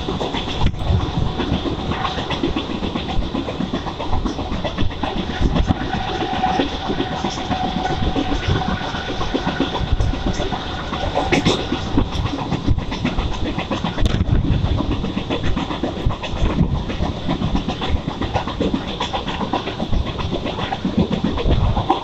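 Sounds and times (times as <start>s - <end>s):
train rumbling and rattling: 0.0s - 22.0s.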